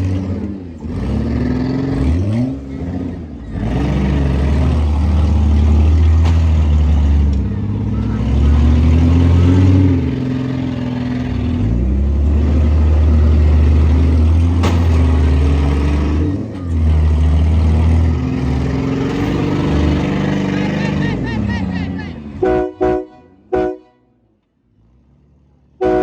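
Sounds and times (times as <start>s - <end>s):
car engines revving hard: 0.0s - 23.8s, 24.7s - 26.0s.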